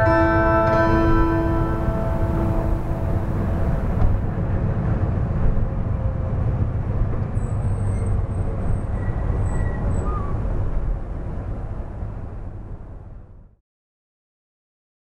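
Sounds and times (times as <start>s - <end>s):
vehicle rumbling on steel bridge: 0.0s - 13.6s.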